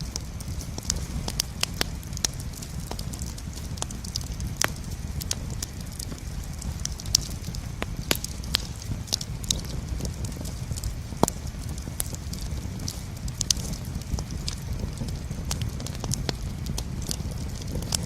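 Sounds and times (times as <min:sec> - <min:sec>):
campfire crackling and popping: 0:00.0 - 0:18.0
low steady rumble: 0:00.0 - 0:18.0.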